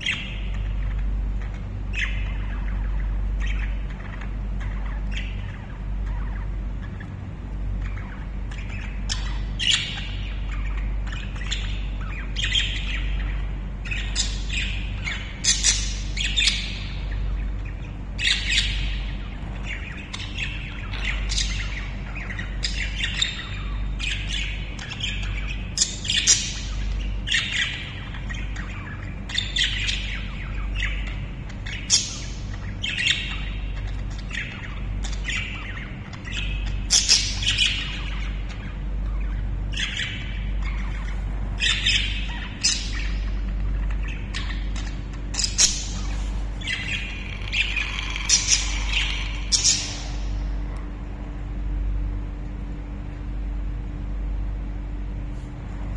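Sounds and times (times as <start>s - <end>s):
budgerigars chattering: 0.0s - 50.7s.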